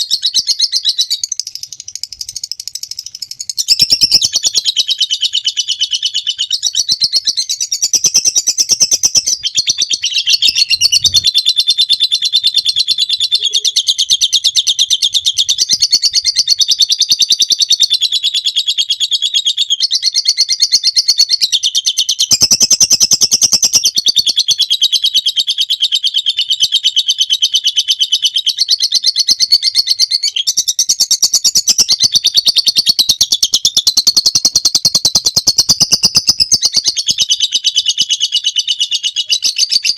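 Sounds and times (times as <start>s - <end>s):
lovebird chattering trill: 0.0s - 19.0s, 22.0s - 39.9s.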